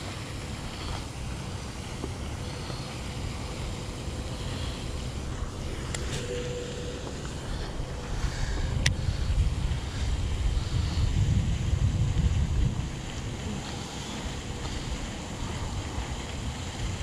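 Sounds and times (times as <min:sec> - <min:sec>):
fountain spray rushing: 0:00.0 - 0:17.0
wind rumbling on microphone: 0:00.0 - 0:17.0.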